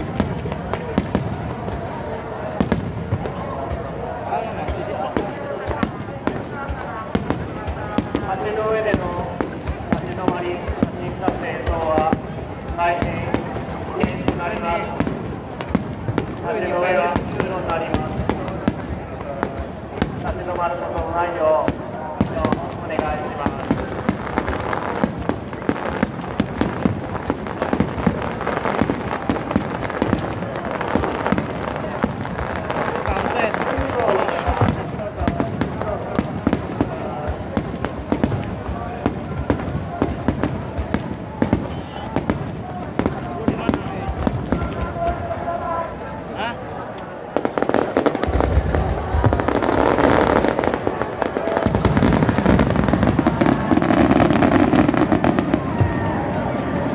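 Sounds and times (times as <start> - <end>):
fireworks bursting: 0.0 - 56.9.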